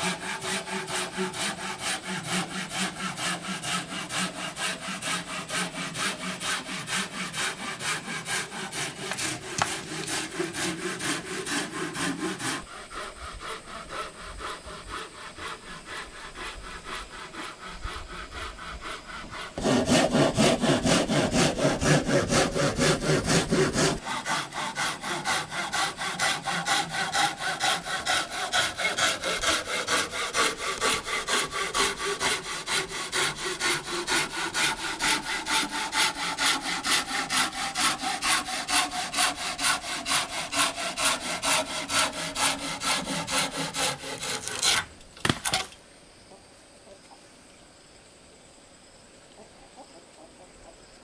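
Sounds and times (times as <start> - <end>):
hand saw cutting wood: 0.0 - 45.7.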